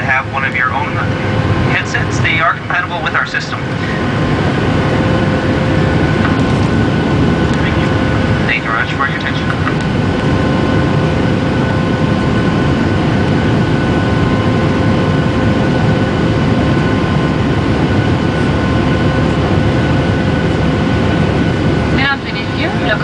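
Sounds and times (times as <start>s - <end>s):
jet engine cabin rush: 0.0s - 23.0s
steady whining tones: 0.0s - 23.0s.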